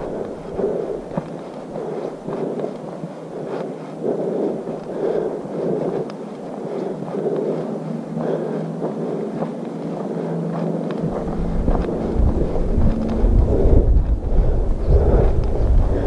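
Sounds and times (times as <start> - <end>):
footsteps on dirt trail: 0.0 - 16.0
wind rumbling on microphone: 0.0 - 16.0.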